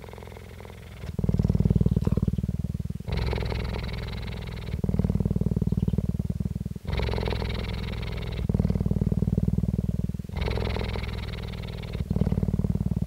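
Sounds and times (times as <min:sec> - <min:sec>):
cheetah purring: 0:00.0 - 0:13.0.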